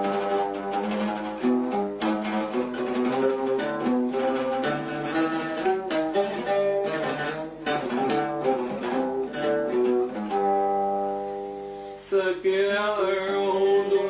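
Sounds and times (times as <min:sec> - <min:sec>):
bowed strings melody: 0:00.0 - 0:12.0
plucked strings: 0:00.0 - 0:12.0.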